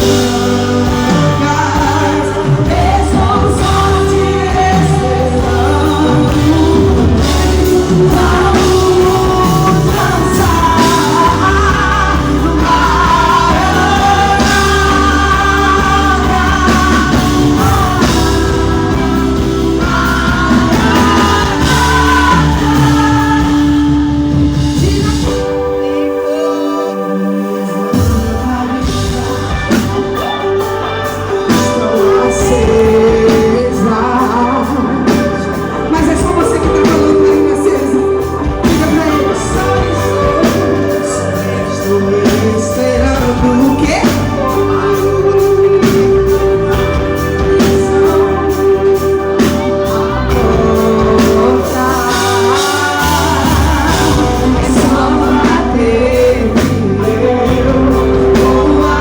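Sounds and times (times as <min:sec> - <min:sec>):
live band with guitar: 0:00.0 - 0:59.0
person singing gospel: 0:00.0 - 0:59.0.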